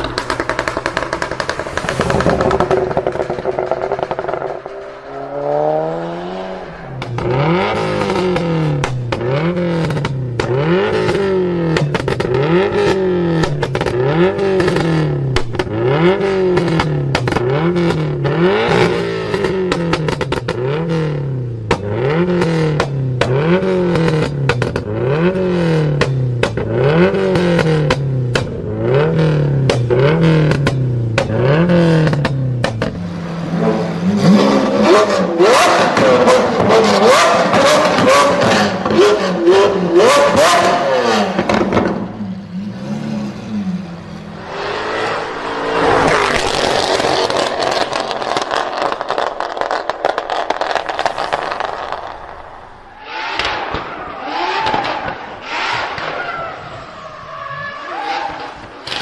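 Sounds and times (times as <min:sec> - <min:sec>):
exhaust pops and crackles: 0:00.0 - 0:05.9, 0:07.0 - 0:33.2, 0:34.1 - 0:42.2, 0:45.8 - 0:59.0
car engine revving: 0:00.0 - 0:59.0.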